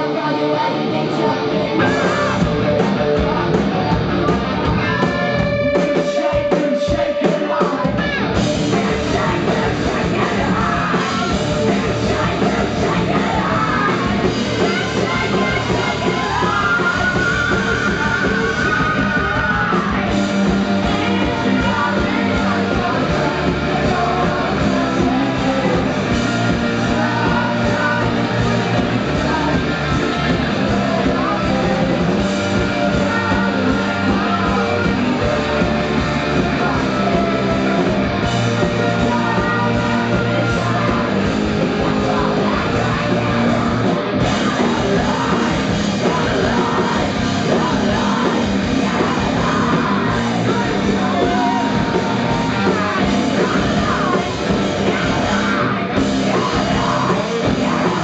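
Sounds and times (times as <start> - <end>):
bass guitar: 0.0 - 58.0
drums: 0.0 - 58.0
electric guitar: 0.0 - 58.0
woman singing: 0.0 - 58.0.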